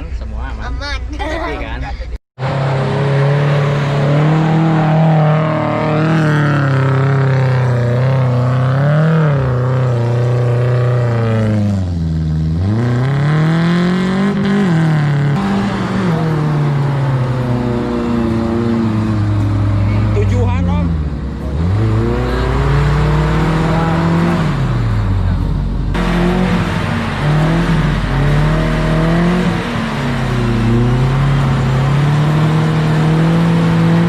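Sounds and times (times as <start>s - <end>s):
off-road engine revving under load: 2.4s - 34.0s.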